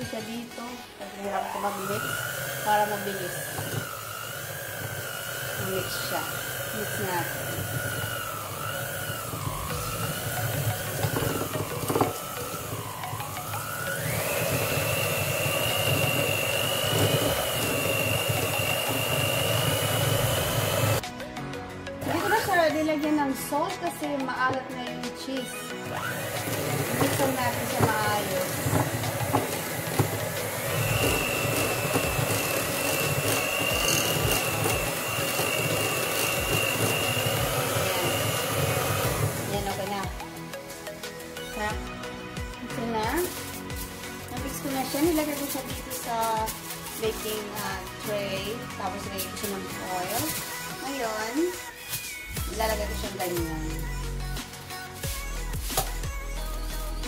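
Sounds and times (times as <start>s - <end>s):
electric hand mixer whining: 0.0s - 57.0s.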